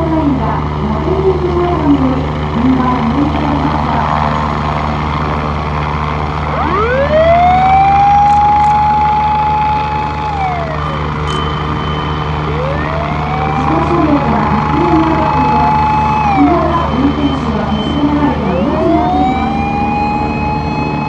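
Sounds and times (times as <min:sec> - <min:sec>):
fire engine siren wailing: 0:00.0 - 0:21.0
low engine drone: 0:00.0 - 0:21.0.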